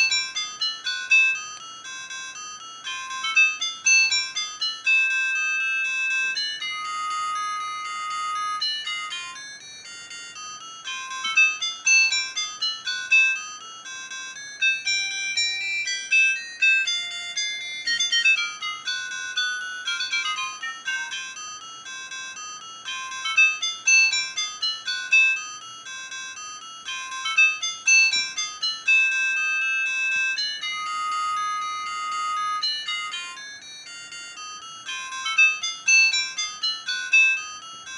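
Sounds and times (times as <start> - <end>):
mobile phone ringtone melody: 0.0 - 37.9.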